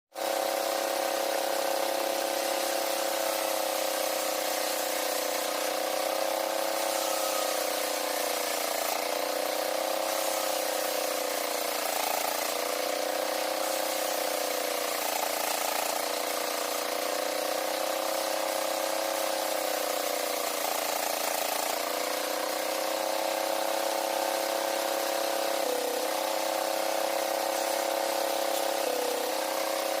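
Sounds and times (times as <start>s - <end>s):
sawmill saw humming: 0.2s - 30.0s.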